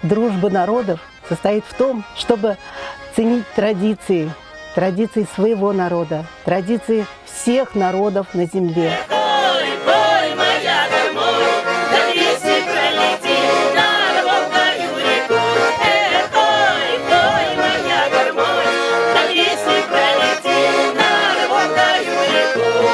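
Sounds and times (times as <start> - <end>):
accordion folk tune: 0.0 - 22.9.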